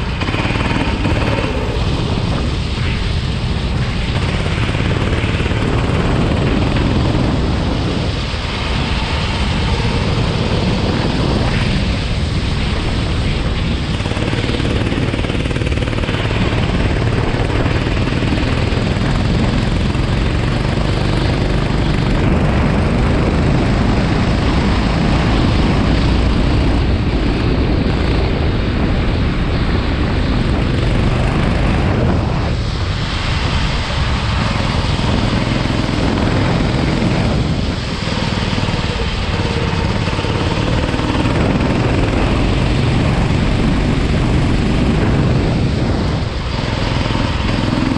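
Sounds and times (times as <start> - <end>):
racing kart engine: 0.0 - 47.9
wind rush on microphone: 0.0 - 47.9.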